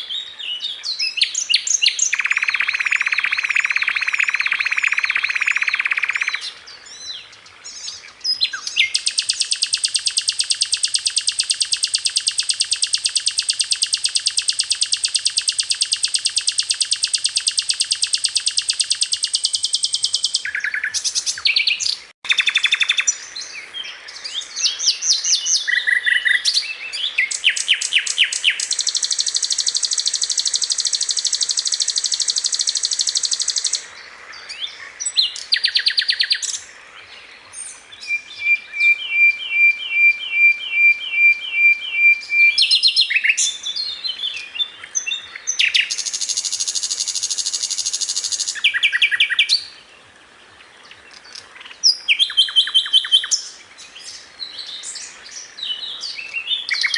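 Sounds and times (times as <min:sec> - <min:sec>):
songbird trills and chirps: 0:00.0 - 0:56.9.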